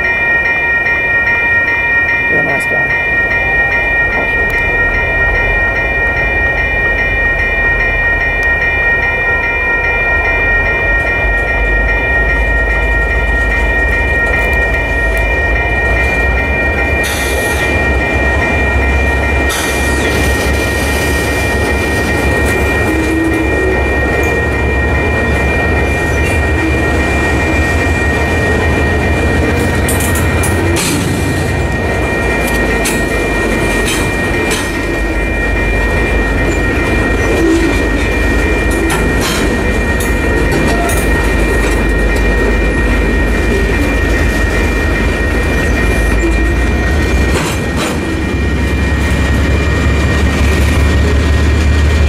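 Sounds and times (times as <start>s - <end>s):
freight train cars rumbling: 0.0s - 52.0s
railroad crossing bells ringing: 0.0s - 52.0s
high-pitched train noise bursts: 2.3s - 52.0s.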